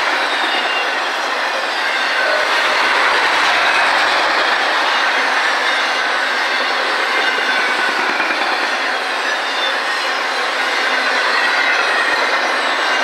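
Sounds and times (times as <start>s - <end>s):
freight train wheels rumbling: 0.0s - 13.0s
high wheel squeal: 0.0s - 13.0s.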